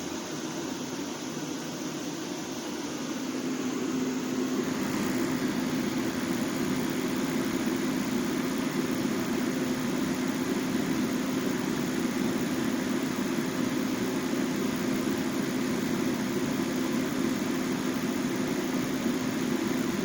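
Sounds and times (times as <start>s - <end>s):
propane heater burner roar: 0.0s - 20.0s.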